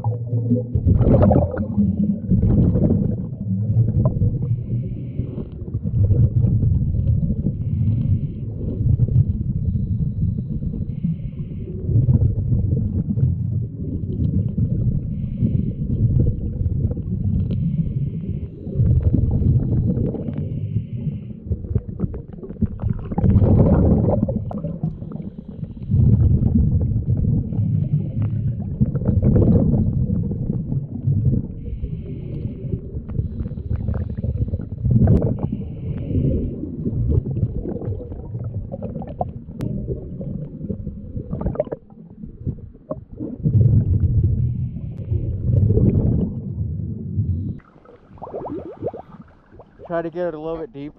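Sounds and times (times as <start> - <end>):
diver breathing underwater: 0.0 - 13.1, 13.9 - 46.4
regulator bubbles gurgling underwater: 0.0 - 50.9.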